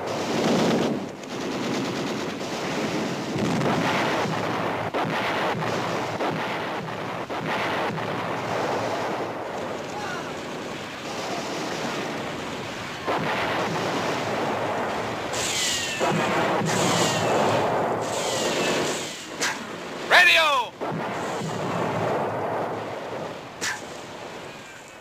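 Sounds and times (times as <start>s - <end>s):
gunfire: 0.0s - 24.2s
artillery explosions: 0.0s - 25.0s.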